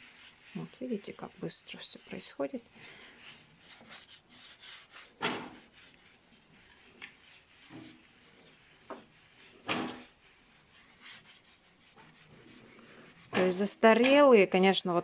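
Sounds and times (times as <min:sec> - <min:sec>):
paper scrubbing glass: 0:00.0 - 0:13.8.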